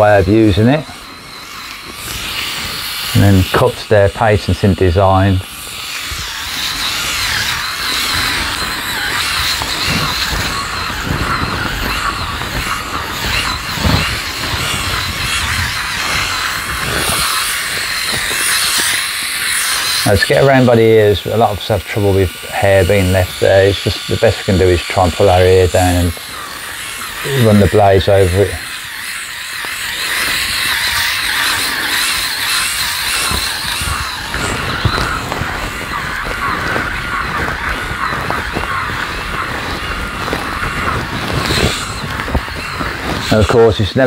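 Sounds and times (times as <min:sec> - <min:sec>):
electric shaver buzzing: 0:00.0 - 0:44.0.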